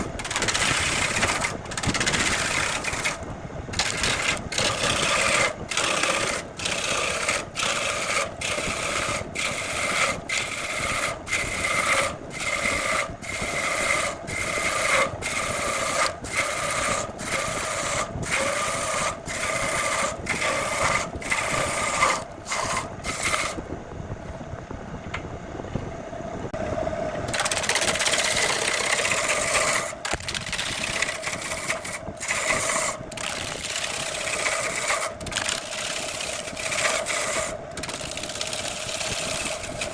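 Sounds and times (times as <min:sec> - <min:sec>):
turning tool scraping wood: 0:00.0 - 0:23.6, 0:27.3 - 0:39.9
wood lathe motor hum: 0:00.0 - 0:23.6, 0:27.3 - 0:39.9.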